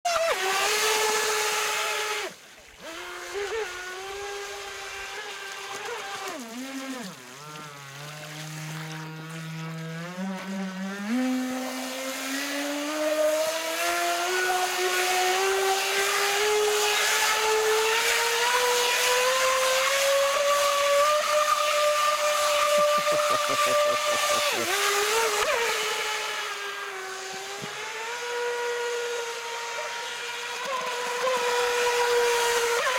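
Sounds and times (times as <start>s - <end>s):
electric motor whining: 0.1s - 32.9s.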